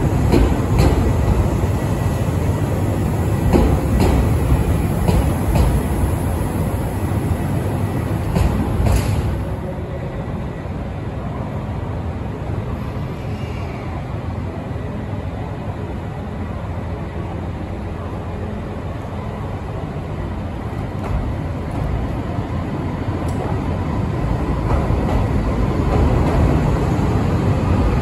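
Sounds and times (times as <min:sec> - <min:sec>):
train rumbling pulling out: 0:00.0 - 0:28.0.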